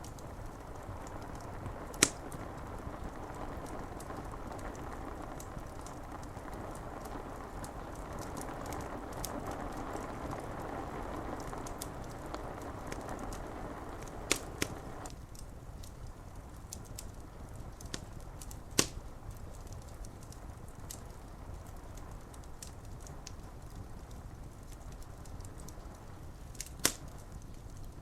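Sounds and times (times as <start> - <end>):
rain on window glass: 0.0 - 28.0
sharp fire pops: 0.0 - 28.0
wood fire crackling: 0.0 - 28.0.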